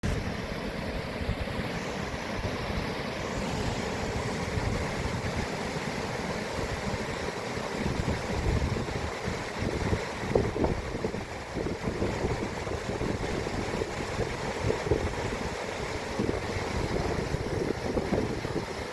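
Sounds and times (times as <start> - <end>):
water rushing: 0.0 - 18.9.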